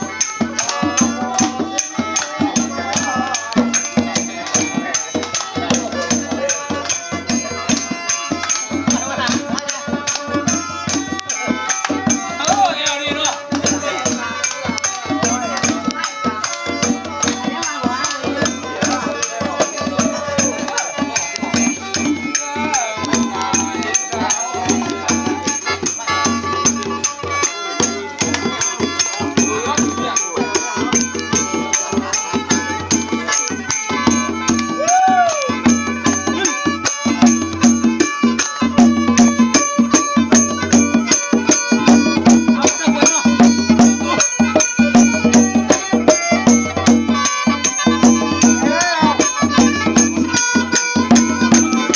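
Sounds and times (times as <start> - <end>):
group of voices singing: 0.0 - 51.9
hand clapping: 0.0 - 51.9
hand drum beating: 0.0 - 51.9.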